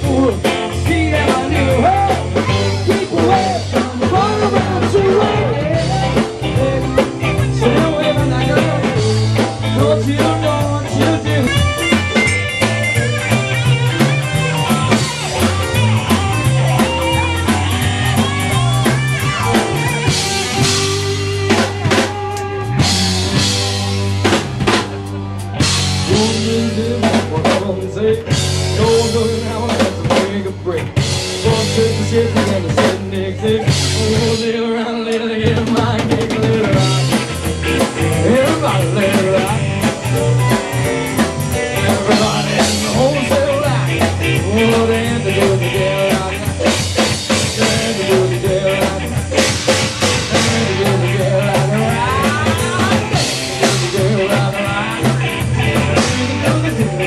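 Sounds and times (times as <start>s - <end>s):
drum kit beat: 0.0s - 57.0s
live rock band playing: 0.0s - 57.0s.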